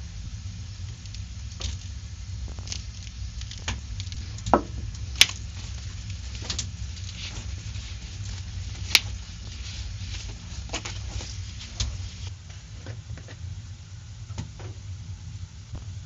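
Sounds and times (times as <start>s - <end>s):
steady low rumble: 0.0s - 16.0s
scattered clicks and crackles: 0.4s - 13.4s.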